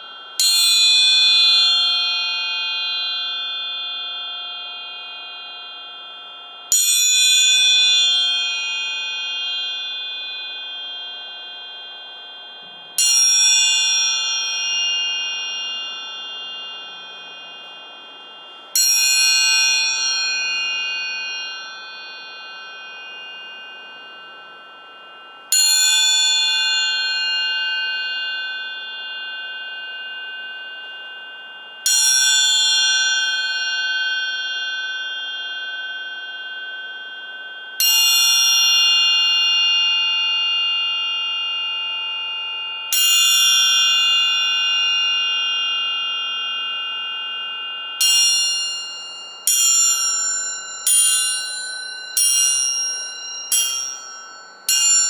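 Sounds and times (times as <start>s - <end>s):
triangle ringing: 0.0s - 55.0s.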